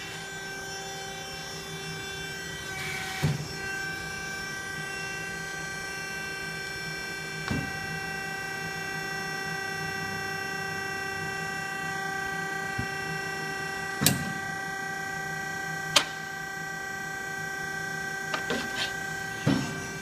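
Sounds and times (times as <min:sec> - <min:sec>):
hydraulic pump hum: 0:02.6 - 0:20.0.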